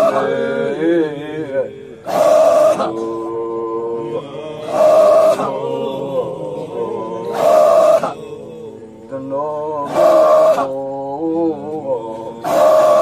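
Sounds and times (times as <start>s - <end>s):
group of voices chanting: 0.0s - 13.0s.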